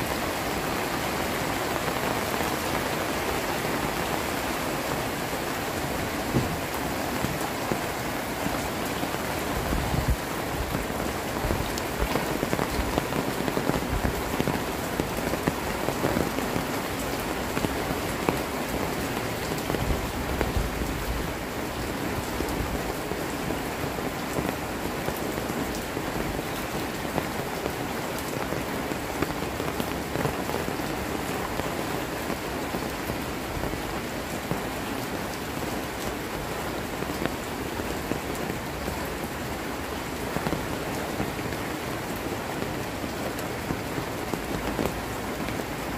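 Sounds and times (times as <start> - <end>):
heavy rain on metal roofs: 0.0 - 45.9.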